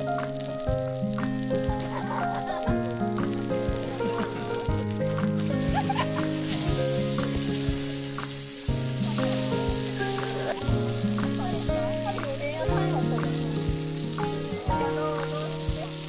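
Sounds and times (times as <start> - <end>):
fish sizzling on a griddle: 0.0 - 16.0
soft background music with beat: 0.0 - 16.0.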